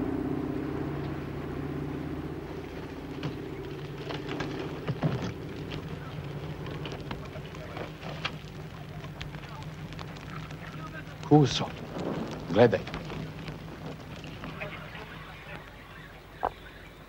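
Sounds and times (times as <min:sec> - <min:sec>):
bonfire crackling and snapping: 0:00.0 - 0:17.0
propeller aircraft engines droning: 0:00.0 - 0:17.0.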